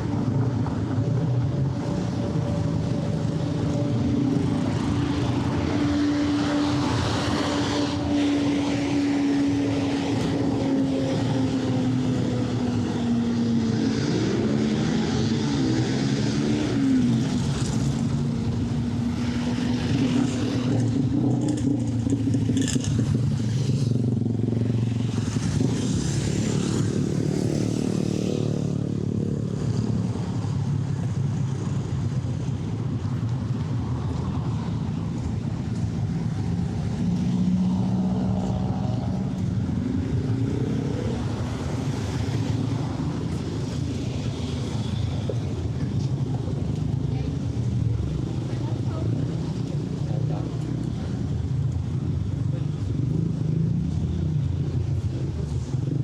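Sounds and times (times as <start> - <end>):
cars and motorcycles passing: 0.0 - 56.0.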